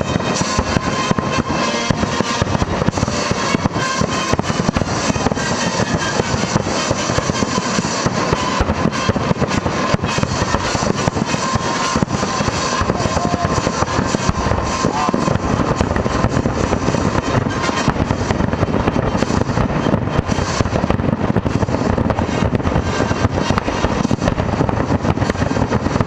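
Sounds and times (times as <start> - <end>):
fireworks bursts and crackle: 0.0 - 26.0.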